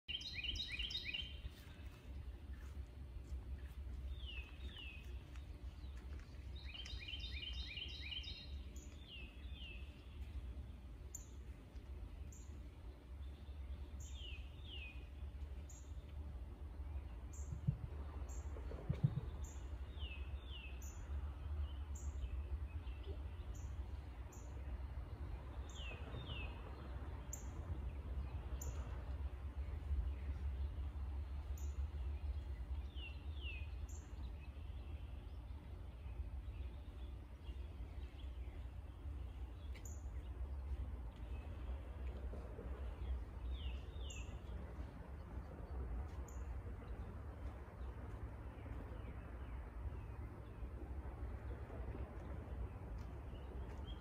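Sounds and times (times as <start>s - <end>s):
songbirds calling: 0.1s - 54.0s
low rumble: 1.4s - 54.0s.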